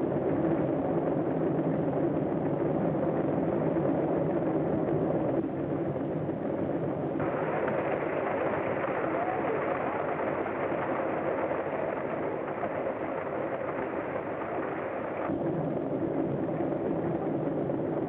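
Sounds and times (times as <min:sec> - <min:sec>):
low engine drone: 0:03.0 - 0:18.0.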